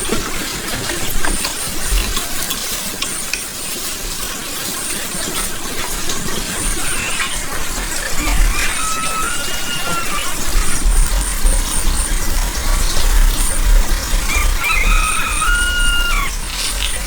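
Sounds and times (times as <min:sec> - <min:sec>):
food sizzling and crackling: 0:00.0 - 0:17.0.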